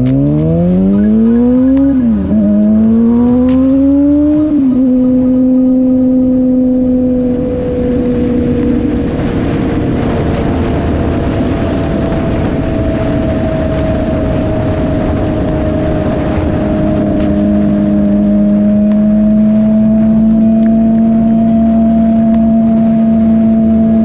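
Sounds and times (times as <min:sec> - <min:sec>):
motorcycle engine cruising: 0:00.0 - 0:24.0
wind noise: 0:00.0 - 0:24.0.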